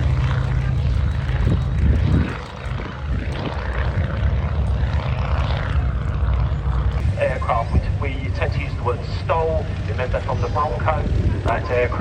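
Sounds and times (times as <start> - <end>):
propeller aircraft engine overhead: 0.0 - 12.0.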